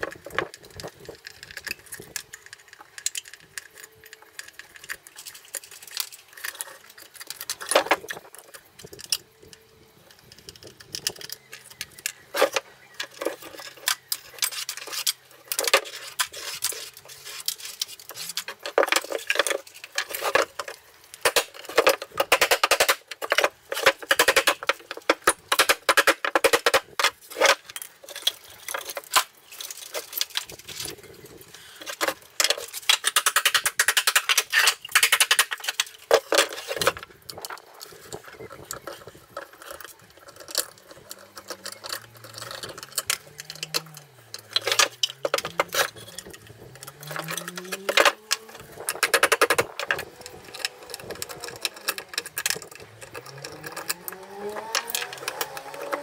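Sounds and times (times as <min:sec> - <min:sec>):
metal parts clicking and rattling: 0:00.0 - 0:56.0.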